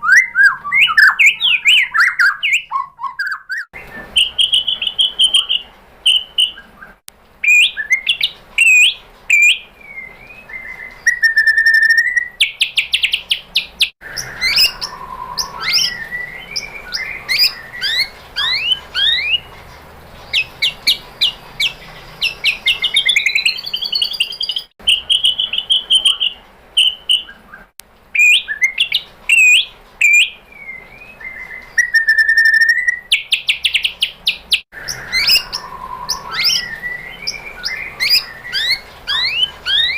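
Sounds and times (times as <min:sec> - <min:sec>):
bird singing whistled phrases: 0:00.0 - 0:19.5, 0:20.3 - 0:39.9.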